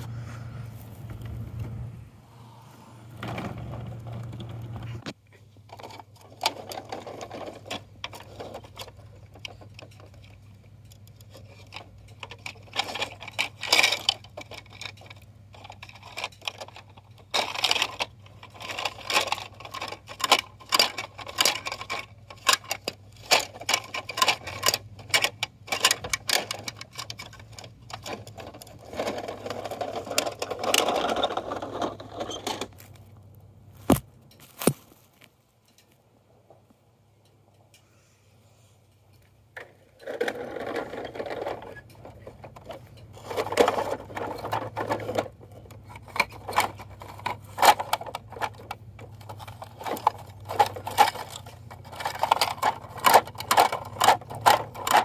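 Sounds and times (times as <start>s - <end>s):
low steady hum: 0.0s - 55.0s
plastic toys clicking and rattling: 3.2s - 33.2s, 39.5s - 55.0s.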